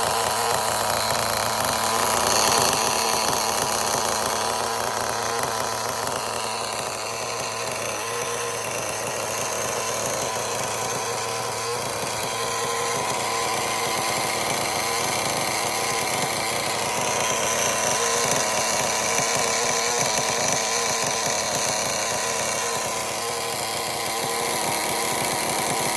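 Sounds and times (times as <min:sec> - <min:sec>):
model engine running: 0:00.0 - 0:25.9.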